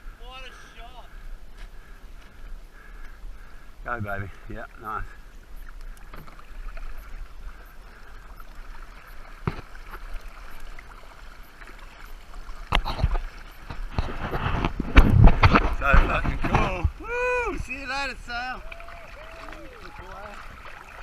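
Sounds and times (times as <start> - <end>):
water lapping against kayak hull: 0.0 - 21.0.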